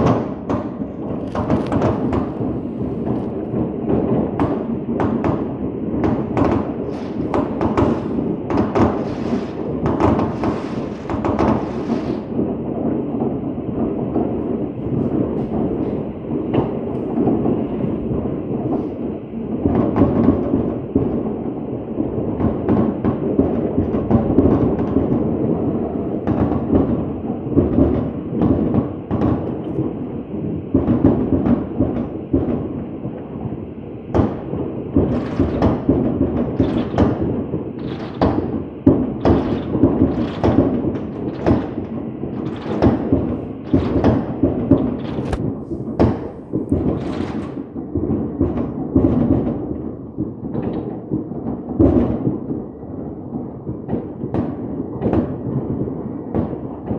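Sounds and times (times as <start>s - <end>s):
sharp firework bangs: 0.0s - 33.5s, 34.1s - 56.9s
fireworks booming: 0.0s - 56.9s.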